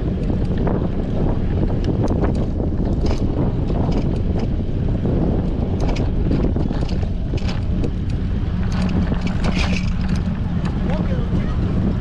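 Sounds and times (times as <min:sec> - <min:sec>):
steady low hum: 0:00.0 - 0:12.0
wind buffeting microphone: 0:00.0 - 0:12.0.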